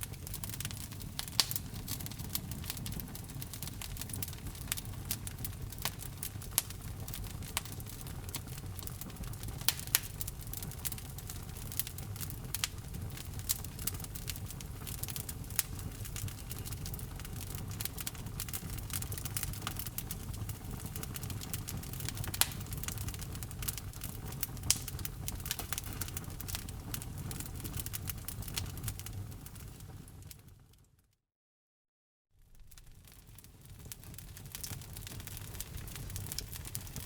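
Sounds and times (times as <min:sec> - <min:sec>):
wood fire crackling: 0:00.0 - 0:30.8, 0:32.4 - 0:37.0.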